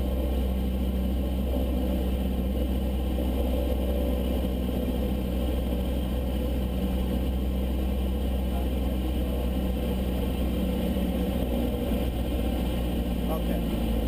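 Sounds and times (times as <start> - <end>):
aircraft engine and propeller droning: 0.0 - 14.0.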